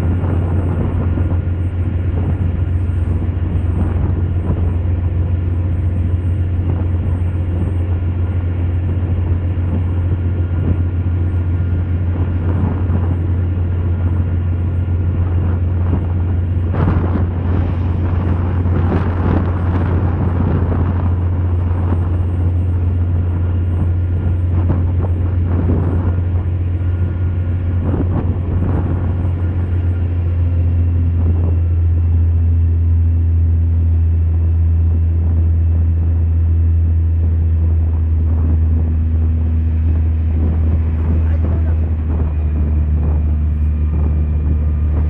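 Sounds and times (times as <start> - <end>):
ship engine rumble: 0.0 - 45.0
wind: 0.0 - 45.0.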